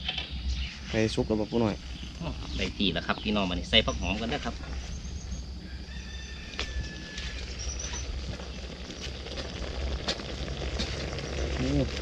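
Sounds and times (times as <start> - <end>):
steady low rumble: 0.0 - 12.0
fire crackling: 0.4 - 12.0.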